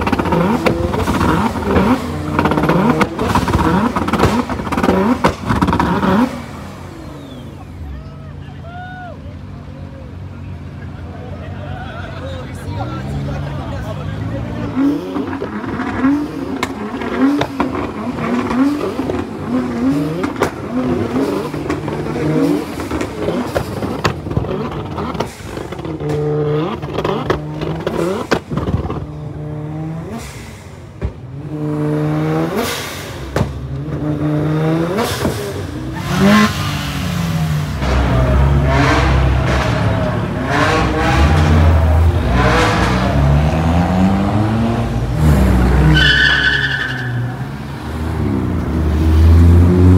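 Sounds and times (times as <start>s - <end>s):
car engines revving: 0.0s - 49.9s
deep heavy engine: 0.0s - 49.9s.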